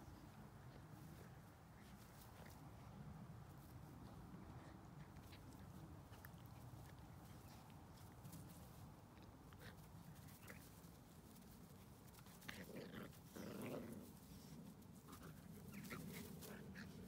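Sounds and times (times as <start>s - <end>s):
dogs play growling: 0.1s - 17.0s.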